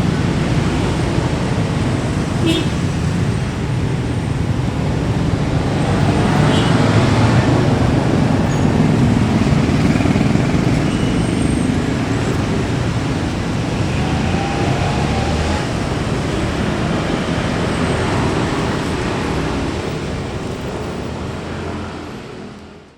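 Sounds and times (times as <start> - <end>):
traffic rumble: 0.0 - 22.9.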